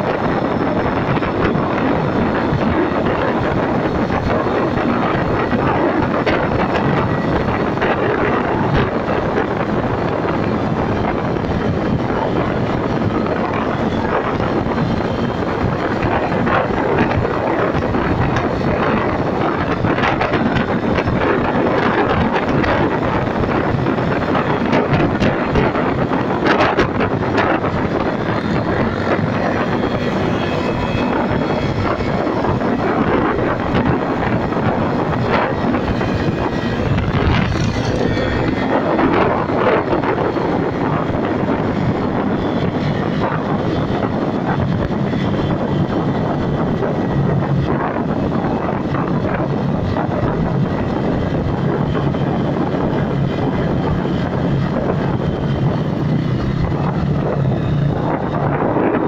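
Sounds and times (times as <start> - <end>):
motorbike engines running: 0.0 - 59.0
wind noise on microphone: 0.0 - 59.0.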